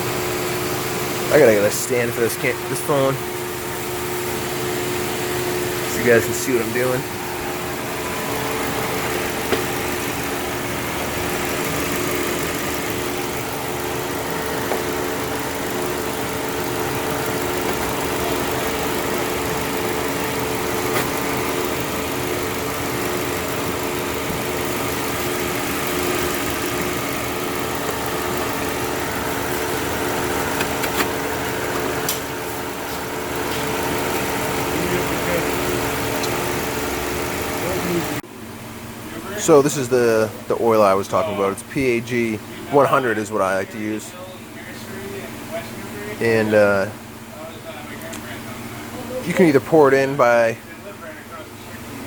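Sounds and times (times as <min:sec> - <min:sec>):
air conditioning hum: 0:00.0 - 0:52.0
car engine idling: 0:00.0 - 0:52.0.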